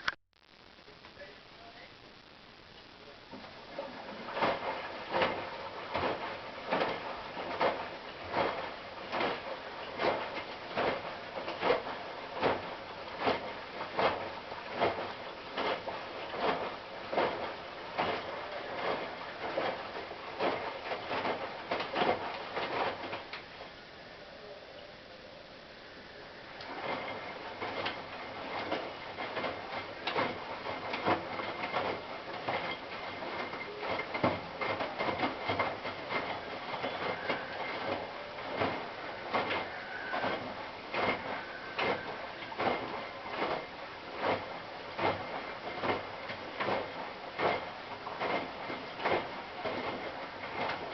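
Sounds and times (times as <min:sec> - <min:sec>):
washing machine drum tumbling: 0:03.3 - 0:23.8, 0:26.4 - 0:50.9.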